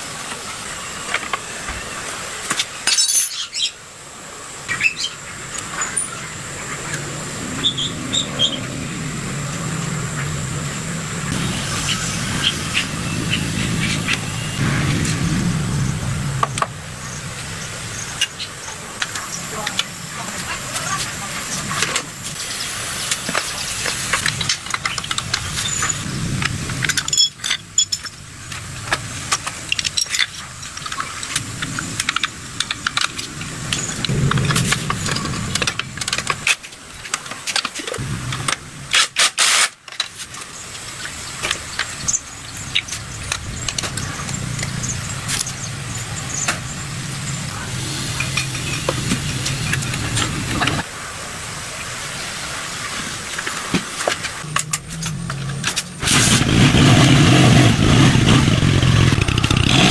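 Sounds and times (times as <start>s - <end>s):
low steady hum: 3.8s - 39.0s, 40.3s - 59.9s.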